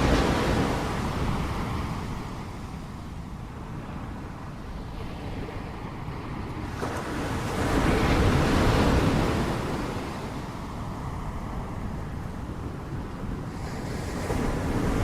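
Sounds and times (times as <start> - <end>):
low rumble of sea: 0.0 - 15.0.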